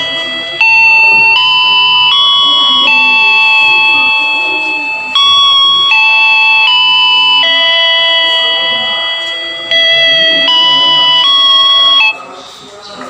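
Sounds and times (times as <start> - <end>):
electronic bell chime melody: 0.0 - 12.3.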